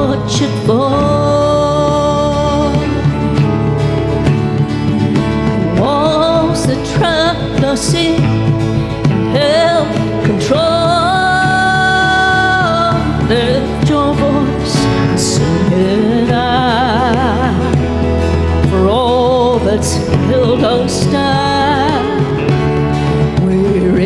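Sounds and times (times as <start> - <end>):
person singing: 0.0 - 24.0
worship band playing: 0.0 - 24.0.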